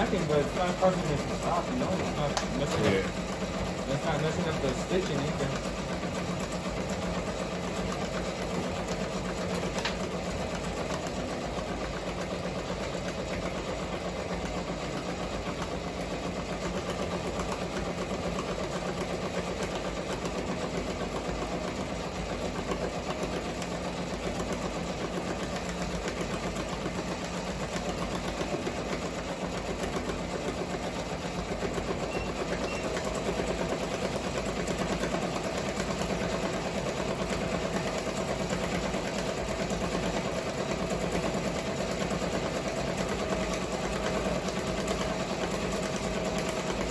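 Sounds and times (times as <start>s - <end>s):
embroidery machine clattering: 0.0s - 46.9s.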